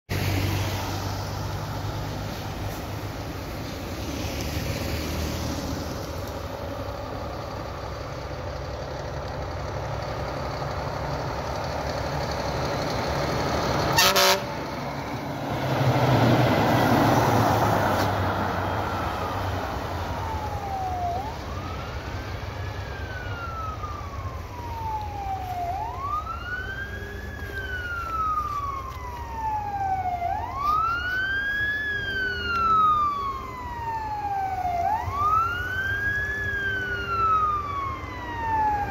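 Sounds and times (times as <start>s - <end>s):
road and engine noise: 0.0s - 38.9s
fire engine passing on slushy road: 0.1s - 38.9s
fire engine siren wailing: 0.1s - 38.9s.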